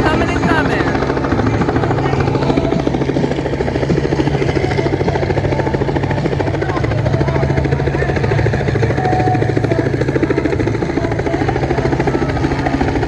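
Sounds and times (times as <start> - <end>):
helicopter engine drone: 0.0 - 13.0
helicopter rotor chopping: 0.0 - 13.0.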